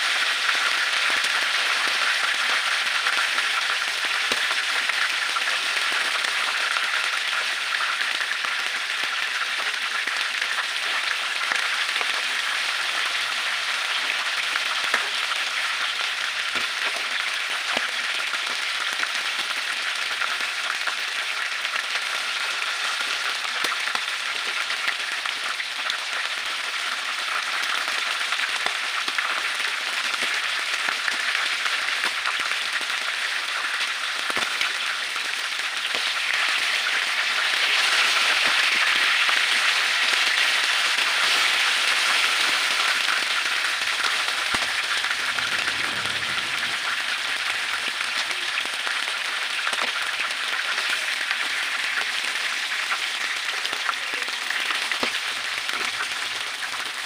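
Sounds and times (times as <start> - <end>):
squid frying in hot oil: 0.0 - 57.0.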